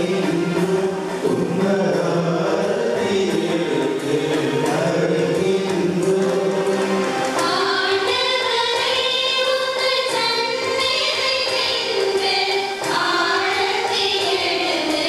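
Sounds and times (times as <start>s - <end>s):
church choir singing a hymn: 0.0s - 15.0s.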